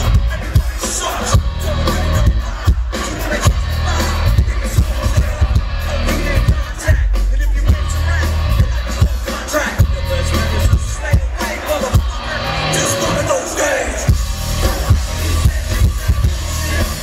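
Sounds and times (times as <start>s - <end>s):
drum beat: 0.0s - 12.3s, 14.0s - 17.0s
bass guitar: 0.0s - 17.0s
distorted electric guitar: 0.0s - 17.0s.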